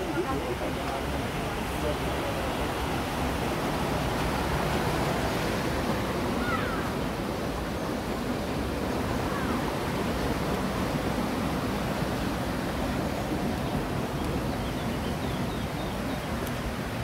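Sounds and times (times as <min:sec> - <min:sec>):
water rushing over weir: 0:00.0 - 0:17.0.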